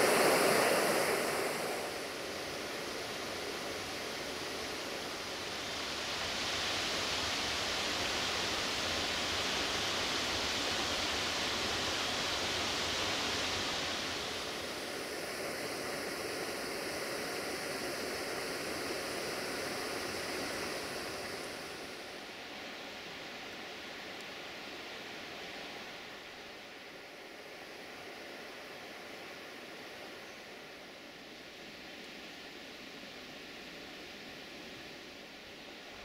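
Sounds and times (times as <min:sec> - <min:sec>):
river water rushing: 0:00.0 - 0:31.7.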